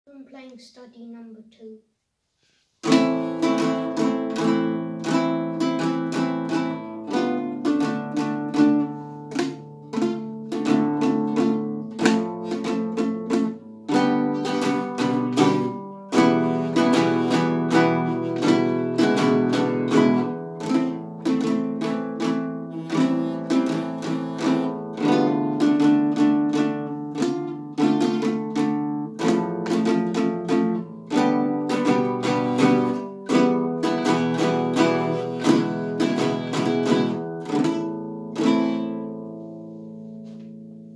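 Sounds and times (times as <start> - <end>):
classical guitar fingerstyle: 2.8 - 40.9.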